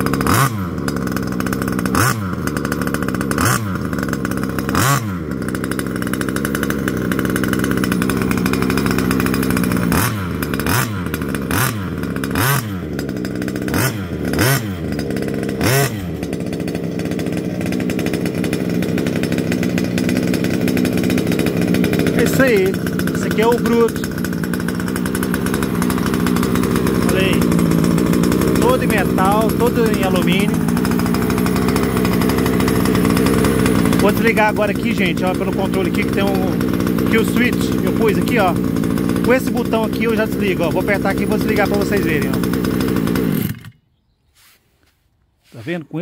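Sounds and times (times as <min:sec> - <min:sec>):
rc truck engine revving: 0:00.0 - 0:43.8.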